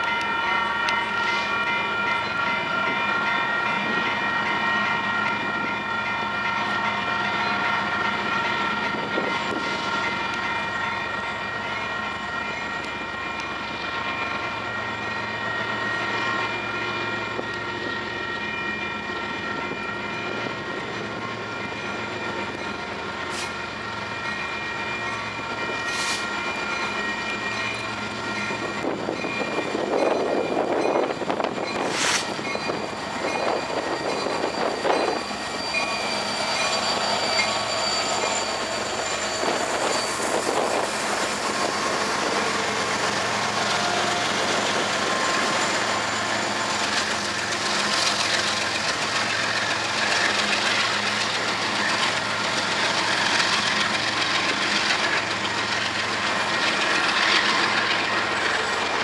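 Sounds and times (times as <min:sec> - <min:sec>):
train wheels rushing on rails: 0:00.0 - 0:59.0.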